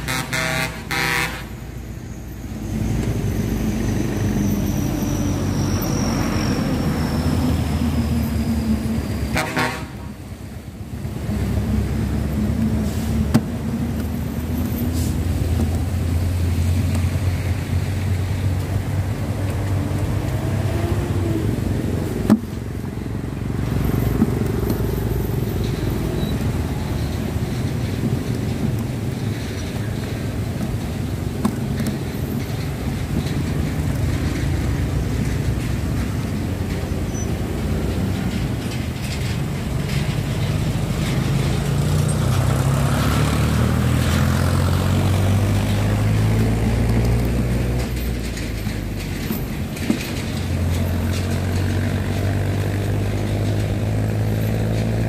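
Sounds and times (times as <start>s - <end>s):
engine humming: 0.0s - 55.0s
low outdoor rumble: 0.0s - 55.0s.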